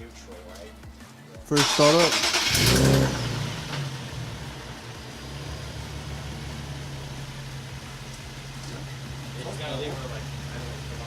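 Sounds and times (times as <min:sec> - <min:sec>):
car engine starting and idling: 0:01.5 - 0:11.0.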